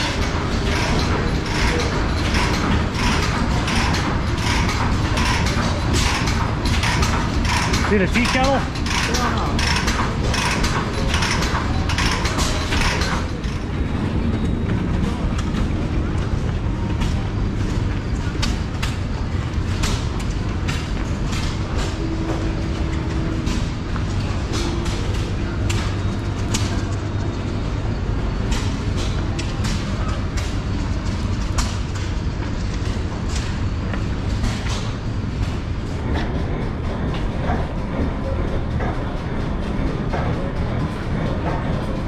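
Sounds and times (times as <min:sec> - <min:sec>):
stationary engines clattering: 0:00.0 - 0:42.0.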